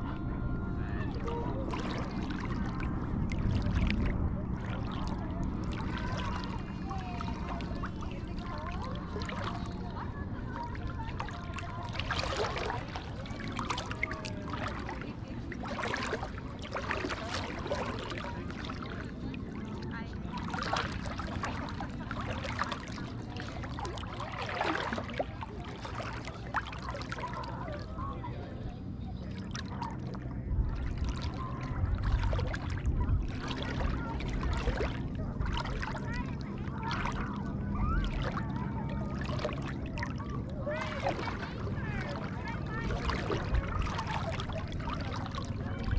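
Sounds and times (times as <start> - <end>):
seawater lapping and splashing: 0.0 - 45.9
steady low rumble: 0.0 - 45.9.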